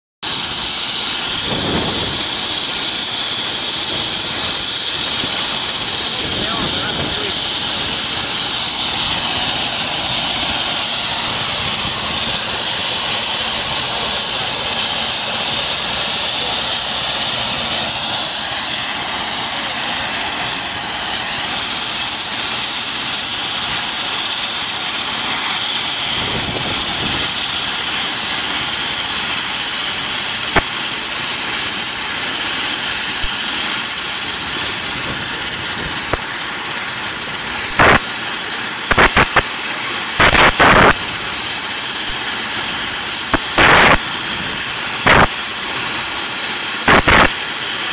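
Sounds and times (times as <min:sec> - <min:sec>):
helicopter turbine and rotor: 0:00.2 - 0:47.9.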